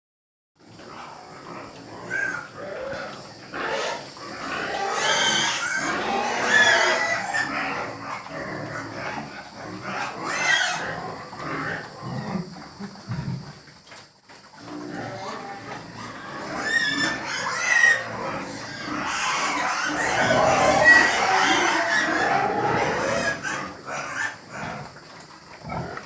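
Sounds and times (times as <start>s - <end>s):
pigs grunting: 0.6s - 26.0s
pigs squealing: 0.8s - 12.6s, 14.6s - 26.0s.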